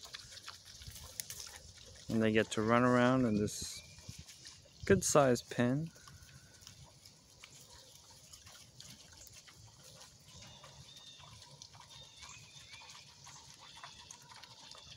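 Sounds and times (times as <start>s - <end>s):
pigs chewing and crunching: 0.0s - 14.9s
pigs snuffling: 0.0s - 14.9s.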